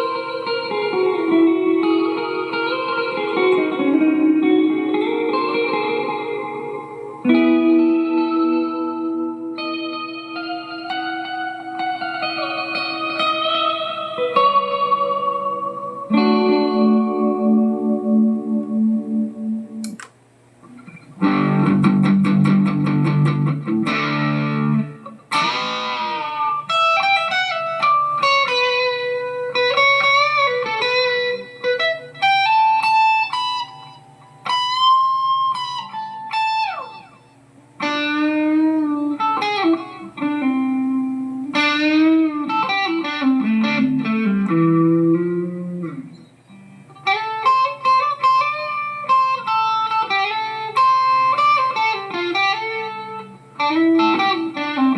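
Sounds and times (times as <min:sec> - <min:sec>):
distorted electric guitar chords: 0:00.0 - 0:54.9
electric guitar melodic lead: 0:00.0 - 0:54.9.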